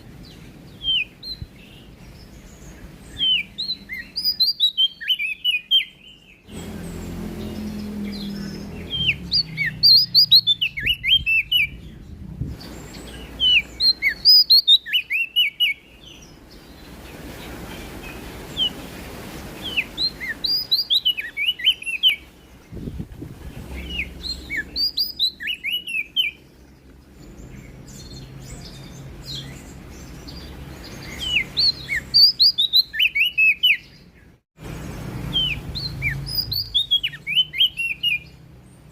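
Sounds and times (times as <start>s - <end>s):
leaf warbler singing: 0.0s - 38.9s.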